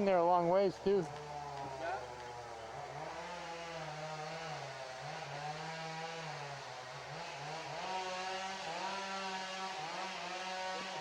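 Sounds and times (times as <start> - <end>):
chainsaw cutting into tree: 1.1 - 11.0.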